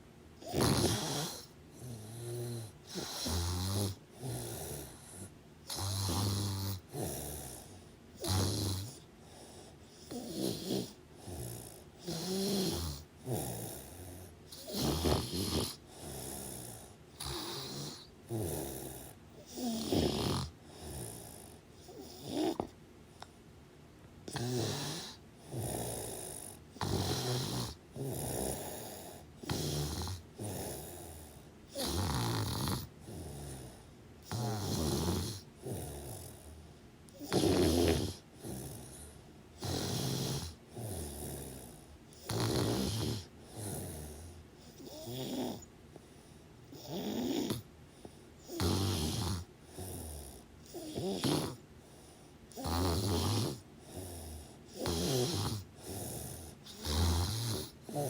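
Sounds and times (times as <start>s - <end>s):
rasping snoring: 0.4s - 22.8s, 24.3s - 45.7s, 46.7s - 58.0s.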